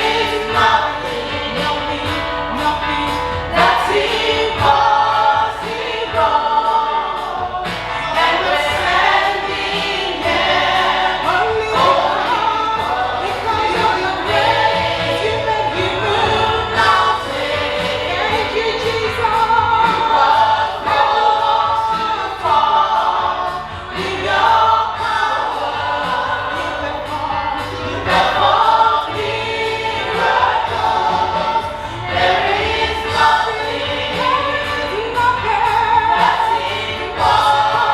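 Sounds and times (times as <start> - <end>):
choir singing gospel song: 0.0 - 37.9
music: 0.0 - 37.9.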